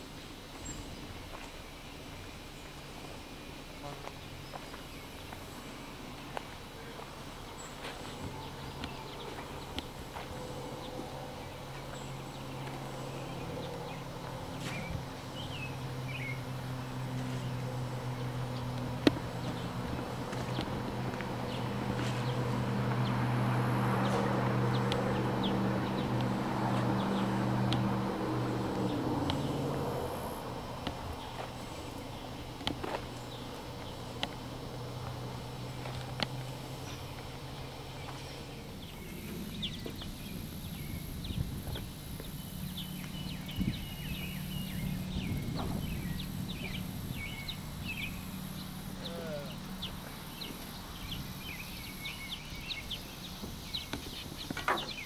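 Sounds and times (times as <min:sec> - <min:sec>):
engine hum: 0:00.0 - 0:55.0
songbirds chirping and whistling: 0:00.1 - 0:55.0.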